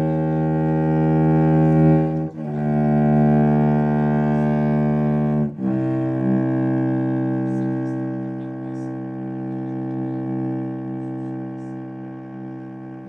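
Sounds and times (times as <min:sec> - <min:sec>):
bowed string low notes: 0:00.0 - 0:13.0.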